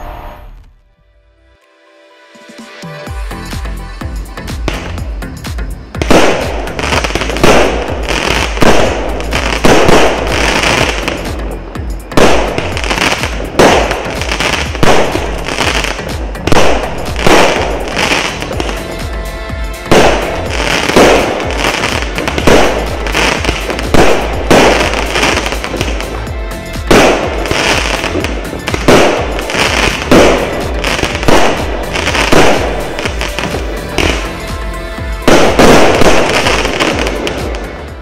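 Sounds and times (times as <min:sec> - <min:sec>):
fireworks bangs: 0:06.0 - 0:19.2, 0:19.8 - 0:37.7
sizzling firework crackle: 0:06.0 - 0:38.0.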